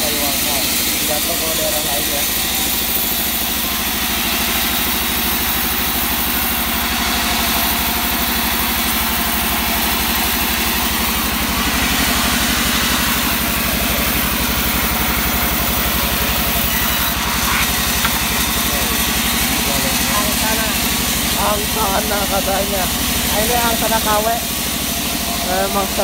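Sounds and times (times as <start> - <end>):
band saw hissing through log: 0.0 - 26.0
engine throbbing: 0.0 - 26.0.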